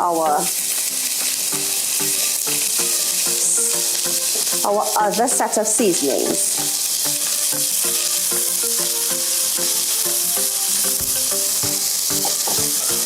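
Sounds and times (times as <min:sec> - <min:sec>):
seasonings sizzling in oil: 0:00.0 - 0:13.0.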